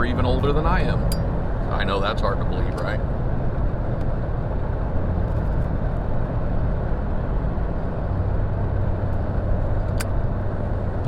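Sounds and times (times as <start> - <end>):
steady low rumble and hum: 0.0 - 11.0.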